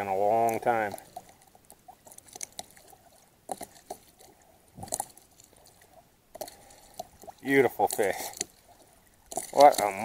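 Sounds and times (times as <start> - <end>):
small water splashes: 0.0 - 10.0
trickling water: 0.0 - 10.0.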